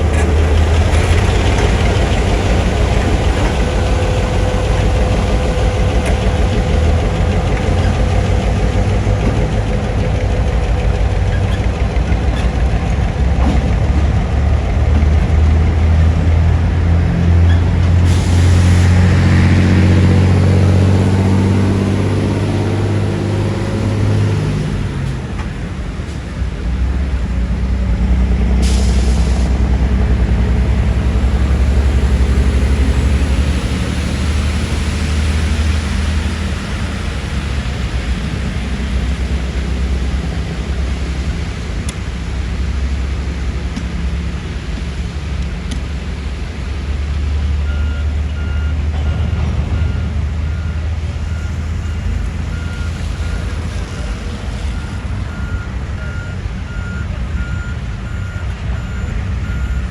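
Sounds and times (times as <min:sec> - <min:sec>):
diesel locomotive engines: 0:00.0 - 0:59.9.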